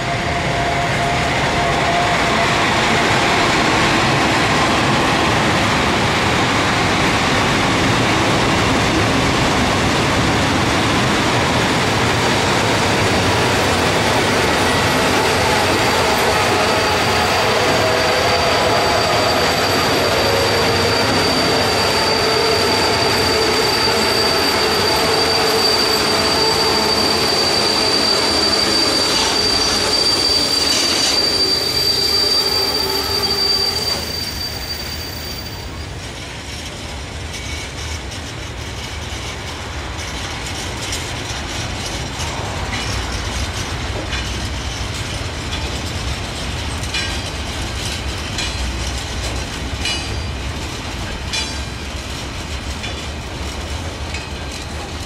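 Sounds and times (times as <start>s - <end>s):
train wheels squealing: 0.0s - 6.8s, 10.6s - 55.0s
rumble of wheels on rail: 0.0s - 55.0s.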